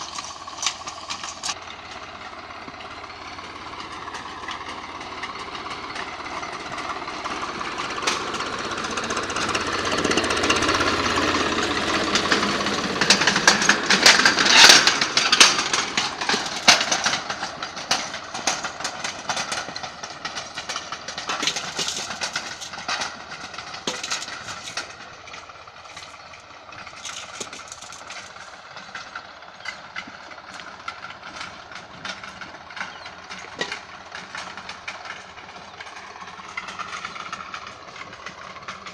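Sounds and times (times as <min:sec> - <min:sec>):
tiller clattering and knocking: 0:00.0 - 0:38.9
tractor diesel engine under load: 0:00.0 - 0:38.9.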